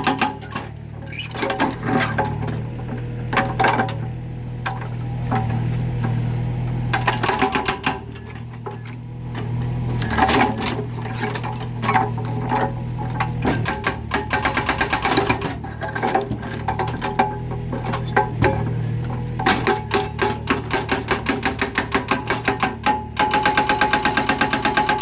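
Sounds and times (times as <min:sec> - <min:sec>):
hydraulic breaker pounding concrete: 0:00.0 - 0:06.1, 0:06.9 - 0:25.0
excavator engine running: 0:00.0 - 0:25.0.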